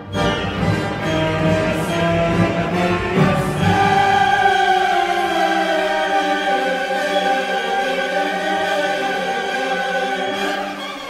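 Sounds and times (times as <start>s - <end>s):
choir singing sustained notes: 0.0s - 11.0s.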